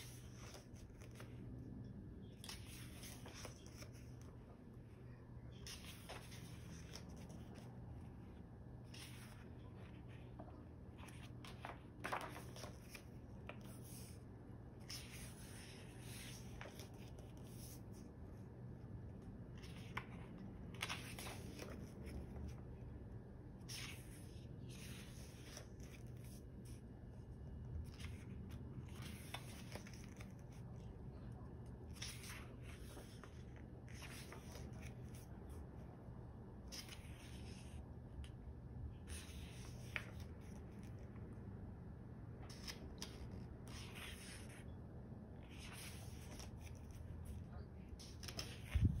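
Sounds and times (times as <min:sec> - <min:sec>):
pages turning: 0:00.0 - 0:18.1, 0:19.4 - 0:22.7, 0:23.6 - 0:35.6, 0:36.5 - 0:38.4, 0:39.0 - 0:41.2, 0:42.4 - 0:44.8, 0:45.4 - 0:49.0
faint low hum: 0:00.0 - 0:49.0.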